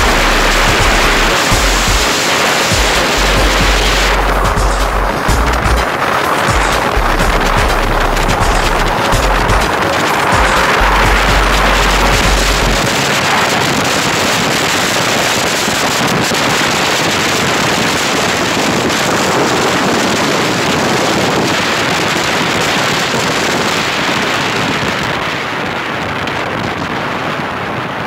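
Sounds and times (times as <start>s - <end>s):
road and vehicle noise: 0.0s - 26.3s
wind rushing over microphone: 0.0s - 28.0s.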